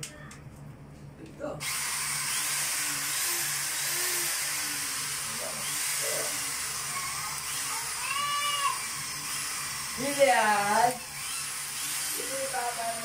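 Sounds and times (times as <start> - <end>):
electric drill whirring: 1.6 - 13.0.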